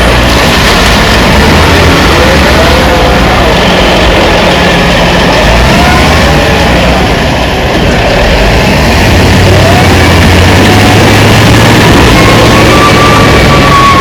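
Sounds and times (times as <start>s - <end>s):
diesel engine running loudly: 0.0s - 14.0s.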